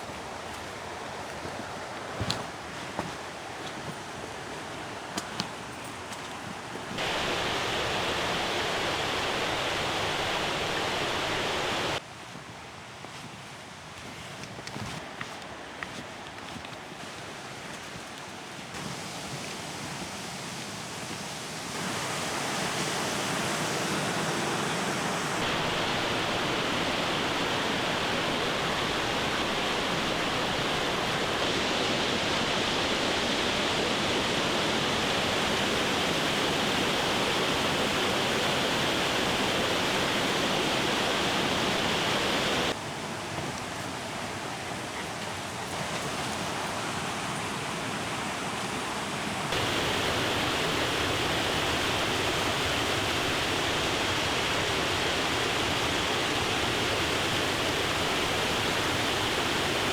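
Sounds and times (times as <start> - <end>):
rushing water of stream: 0.0 - 12.1, 14.5 - 59.9.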